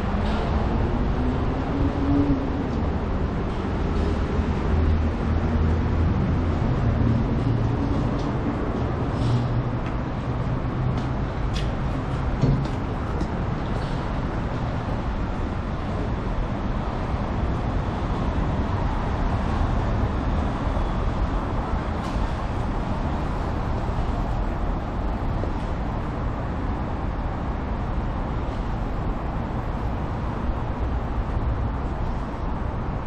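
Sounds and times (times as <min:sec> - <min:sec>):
city traffic rumble: 0:00.0 - 0:33.0.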